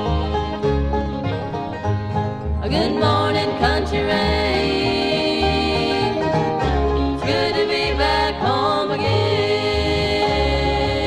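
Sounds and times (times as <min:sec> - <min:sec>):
bluegrass band music: 0:00.0 - 0:11.0.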